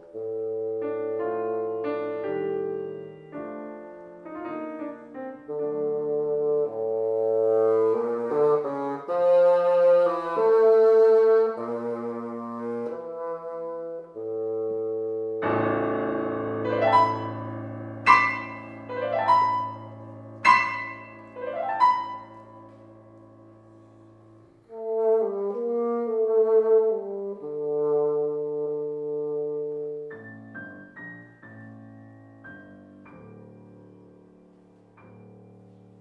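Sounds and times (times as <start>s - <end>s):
bassoon melody: 0.0s - 34.0s
piano playing: 0.0s - 36.0s.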